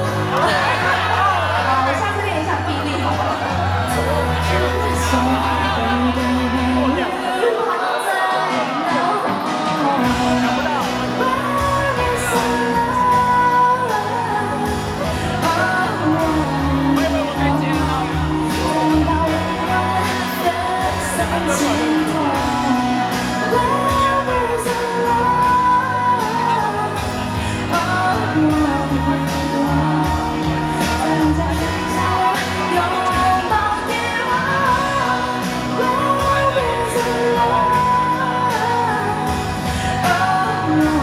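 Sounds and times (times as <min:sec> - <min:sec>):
band playing pop song: 0:00.0 - 0:41.0
woman singing: 0:00.0 - 0:41.0.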